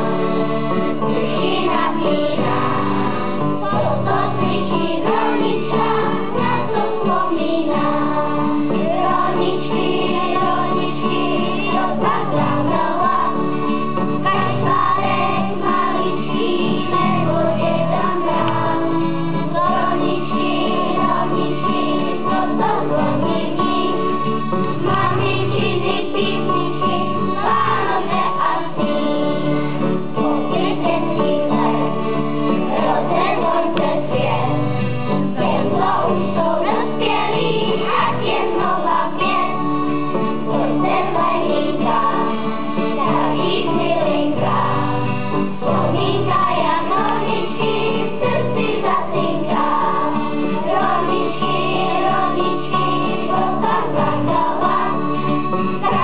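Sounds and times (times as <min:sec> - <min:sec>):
children's choir singing: 0:00.0 - 0:56.0
instrumental accompaniment: 0:00.0 - 0:56.0.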